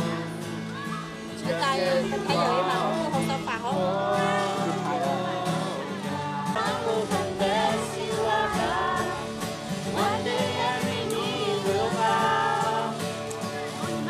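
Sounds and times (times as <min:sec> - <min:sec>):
song with singing: 0:00.0 - 0:14.0.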